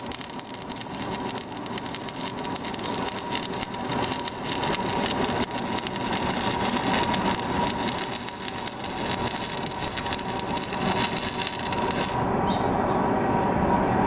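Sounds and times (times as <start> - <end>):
arc welding crackle and hiss: 0.0 - 12.4.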